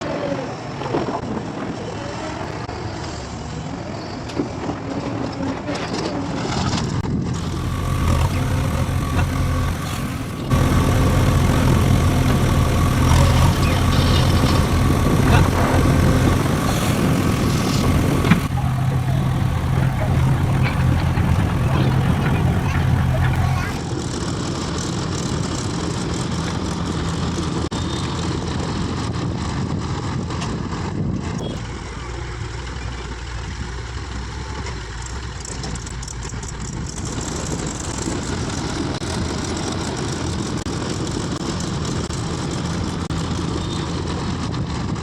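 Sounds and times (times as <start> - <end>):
heavy machinery engine humming: 7.0 - 45.0.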